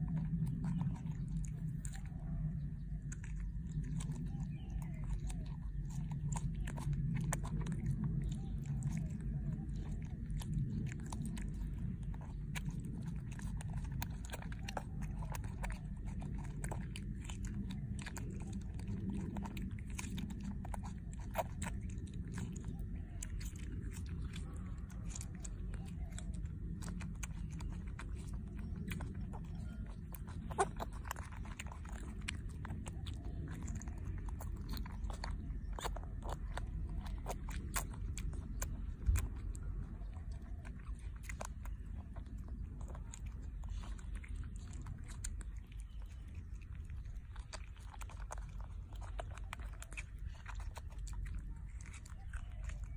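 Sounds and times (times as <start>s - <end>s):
low steady rumble: 0.0s - 52.9s
monkey chewing fruit: 0.0s - 52.9s.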